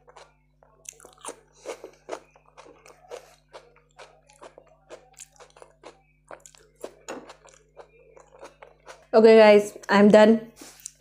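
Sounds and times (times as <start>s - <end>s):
chewing raw salad: 0.0s - 9.1s.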